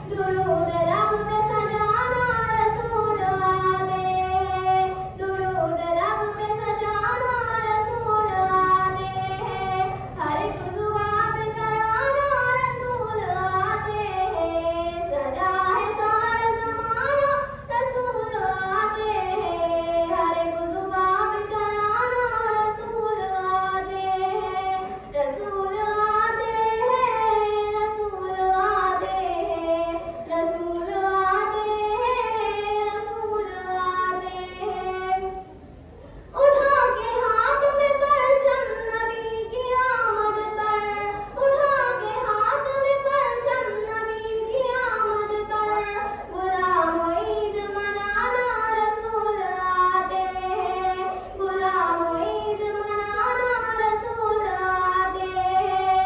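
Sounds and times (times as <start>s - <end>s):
girl singing unaccompanied: 0.0s - 56.0s.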